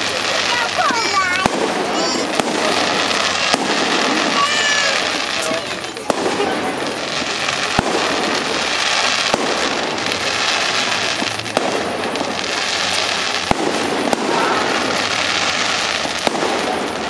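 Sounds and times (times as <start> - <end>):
firework bangs: 0.0 - 17.0
fireworks crackling: 0.0 - 17.0.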